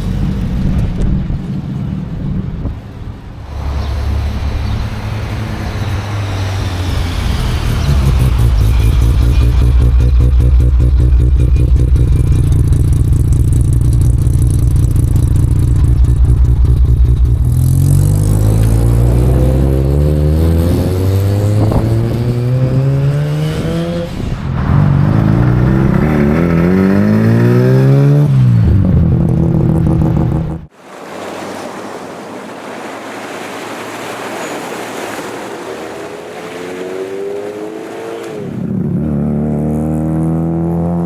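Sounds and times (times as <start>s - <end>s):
car engine idling and accelerating: 0.0s - 30.7s, 33.2s - 41.0s.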